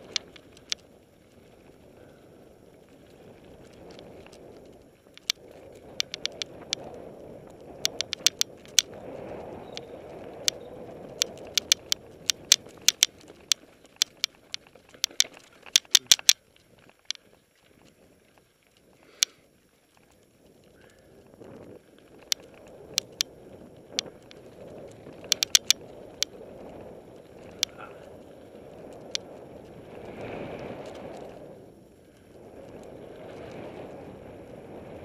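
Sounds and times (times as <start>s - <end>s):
bike tyres rumbling on dirt: 0.0s - 15.8s, 19.6s - 35.0s
bike clicking and rattling: 0.0s - 34.2s.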